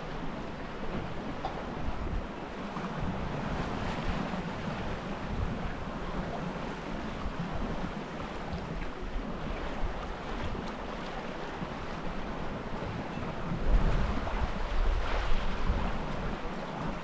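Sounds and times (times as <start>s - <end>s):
water rushing along a boat hull: 0.0s - 17.0s
wind buffeting microphone: 0.0s - 17.0s.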